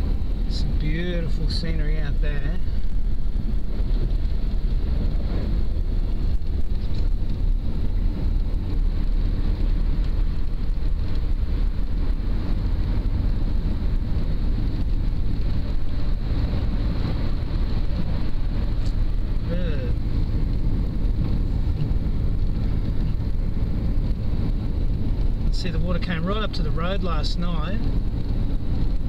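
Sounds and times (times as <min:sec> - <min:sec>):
vehicle engine and tyre noise: 0:00.0 - 0:29.0.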